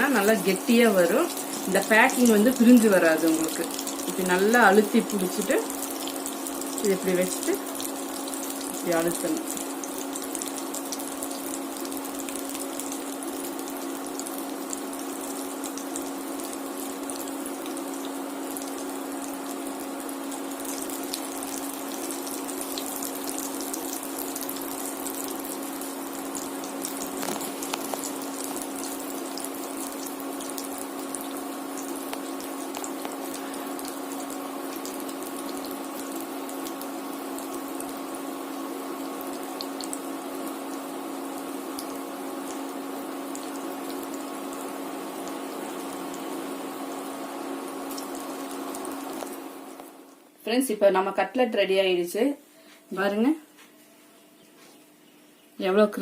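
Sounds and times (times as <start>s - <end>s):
food sizzling in hot oil: 0.0s - 50.2s.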